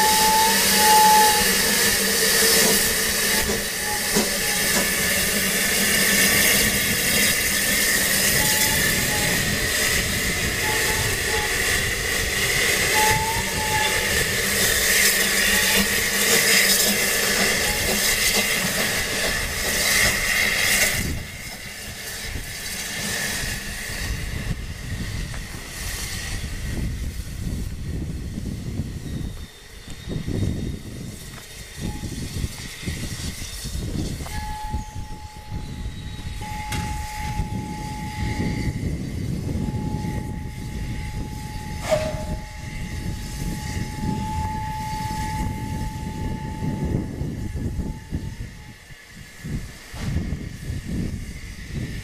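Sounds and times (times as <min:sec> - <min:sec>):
locomotive engine low rumble: 0:00.0 - 0:52.0
steam locomotive hissing: 0:00.0 - 0:52.0.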